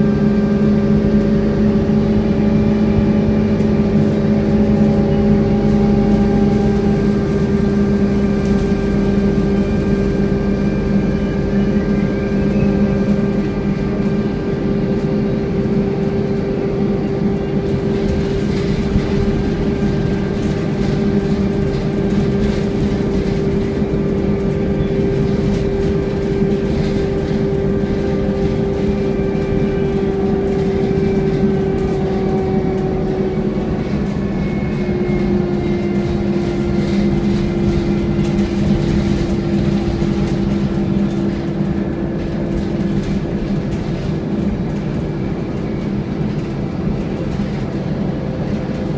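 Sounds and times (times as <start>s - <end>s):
bus engine: 0.0s - 48.9s
bus whine: 0.0s - 48.9s
road noise: 0.0s - 48.9s.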